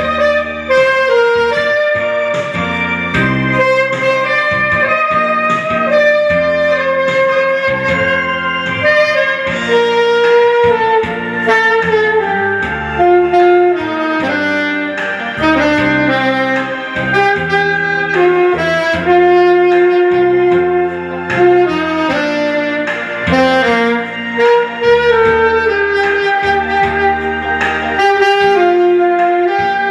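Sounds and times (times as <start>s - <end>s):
band accompaniment: 0.0s - 29.9s
saxophone slow melody: 0.0s - 29.9s
steady bass line: 0.0s - 29.9s.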